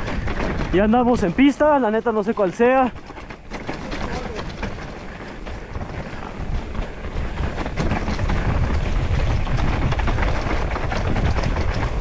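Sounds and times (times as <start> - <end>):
bike clicks and rattles: 0.0 - 12.0
bike tyres rolling on dirt: 0.0 - 12.0
wind rumble on microphone: 0.0 - 12.0.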